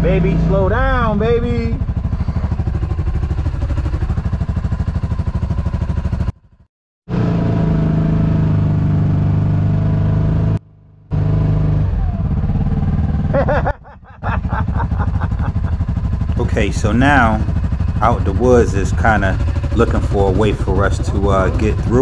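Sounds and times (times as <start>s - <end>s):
vehicle engine running at low speed: 0.0s - 22.0s.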